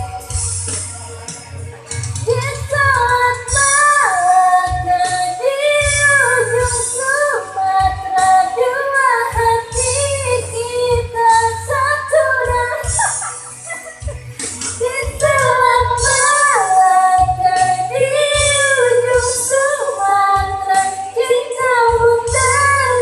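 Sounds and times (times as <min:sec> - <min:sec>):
pop backing track: 0:00.0 - 0:23.0.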